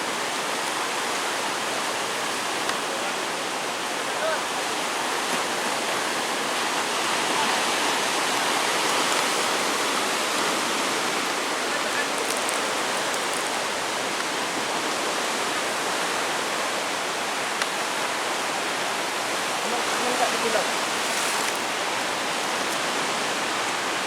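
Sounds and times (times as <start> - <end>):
churning water rushing: 0.0 - 24.0.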